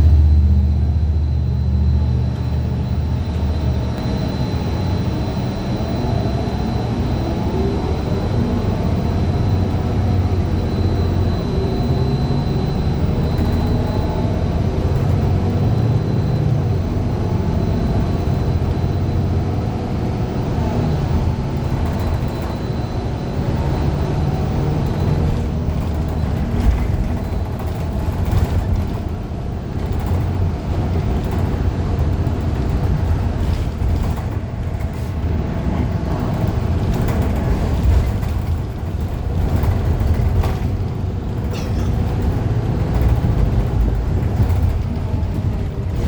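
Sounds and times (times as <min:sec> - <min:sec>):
bus engine and road noise: 0:00.0 - 0:46.0.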